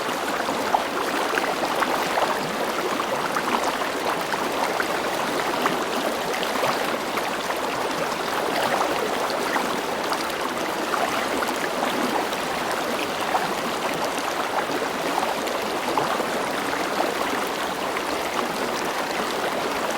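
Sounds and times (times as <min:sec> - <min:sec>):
river water flowing over stones: 0:00.1 - 0:19.9.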